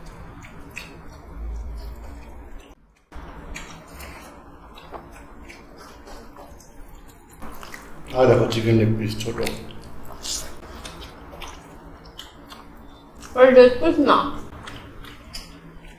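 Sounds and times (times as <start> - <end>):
chewing: 0.0 - 8.2, 9.3 - 13.4, 14.5 - 15.9
fingers mixing wet food: 0.0 - 13.4, 14.5 - 15.9.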